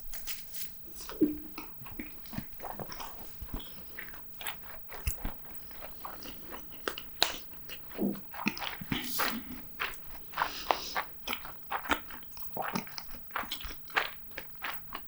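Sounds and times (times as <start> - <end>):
person biting and chewing food: 0.1 - 15.0
wet clicks and smacks: 0.1 - 15.0.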